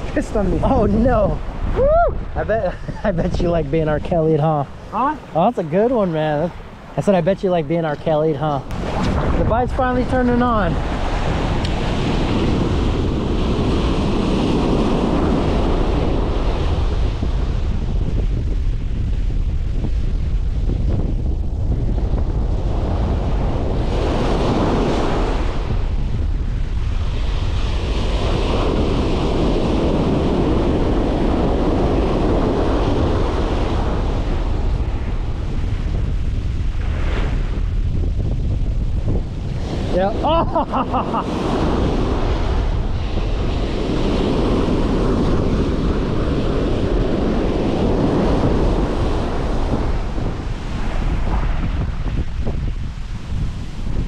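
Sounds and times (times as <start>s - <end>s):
ocean surf breaking: 0.0s - 19.1s, 21.7s - 54.0s
wind buffeting microphone: 0.0s - 54.0s.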